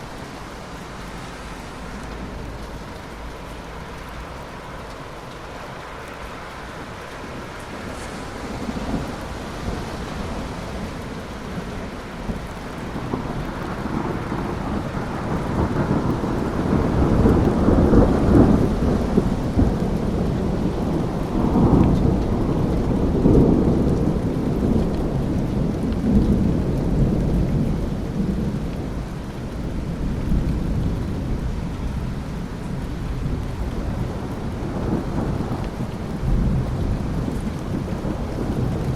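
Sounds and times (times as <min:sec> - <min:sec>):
steady rain: 0:00.0 - 0:38.9
thunder rumbling: 0:00.0 - 0:38.9.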